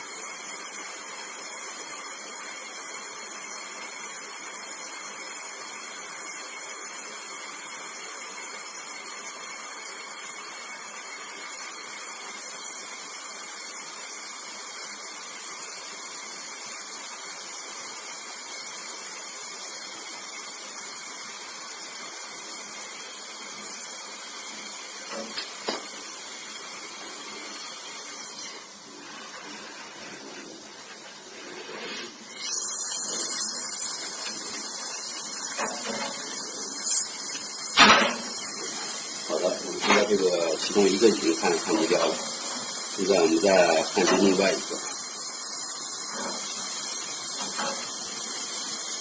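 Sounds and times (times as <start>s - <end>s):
torch flame hissing: 0.0s - 49.0s.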